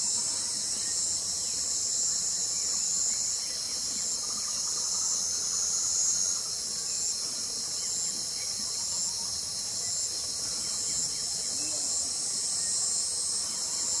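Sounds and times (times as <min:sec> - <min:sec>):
insect chorus: 0:00.0 - 0:14.0
pulsing insect call: 0:00.0 - 0:14.0.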